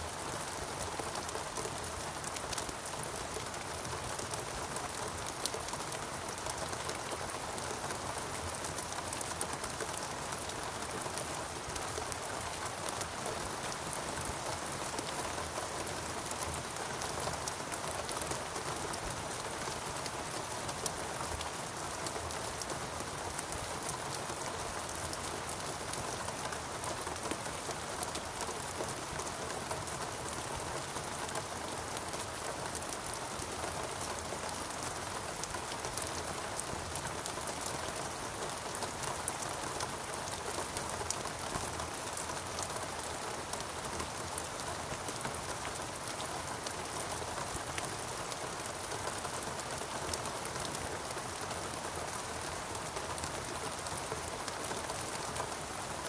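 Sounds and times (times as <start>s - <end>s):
rain pattering on foliage: 0.0s - 56.0s.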